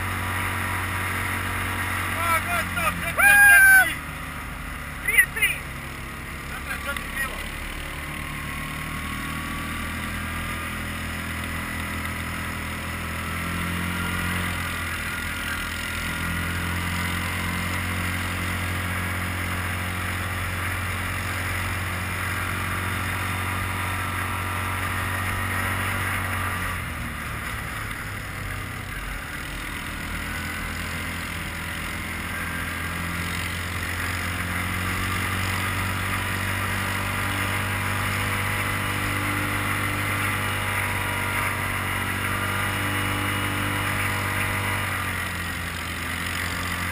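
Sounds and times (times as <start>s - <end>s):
quad bike engine running: 0.0s - 46.9s.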